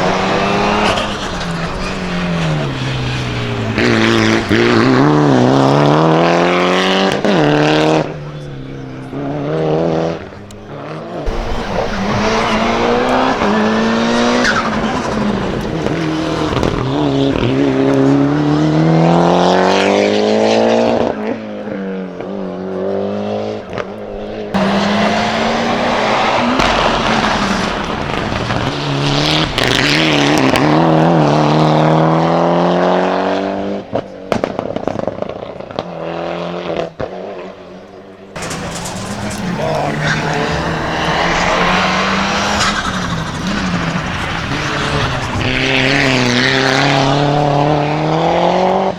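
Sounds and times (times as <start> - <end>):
race car engines accelerating: 0.0 - 21.0, 24.5 - 32.6, 38.4 - 48.9.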